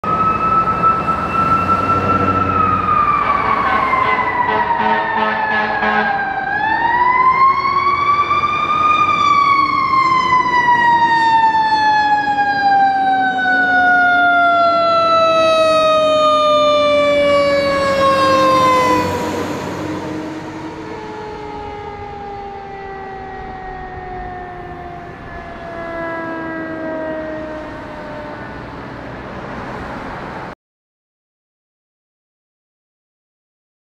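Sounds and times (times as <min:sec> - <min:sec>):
fire engine siren wailing: 0:00.0 - 0:30.6.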